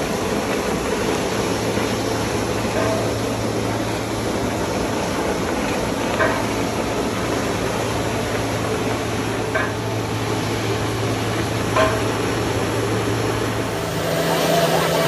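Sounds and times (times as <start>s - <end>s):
furnace rushing with low hum: 0.0s - 15.0s.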